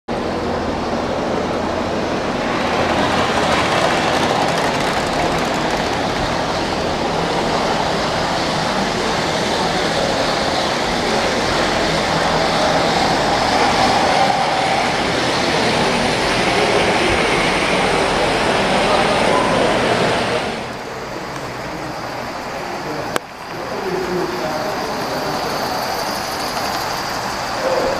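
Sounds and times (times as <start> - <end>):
model train wheels rumbling: 0.1 - 27.9.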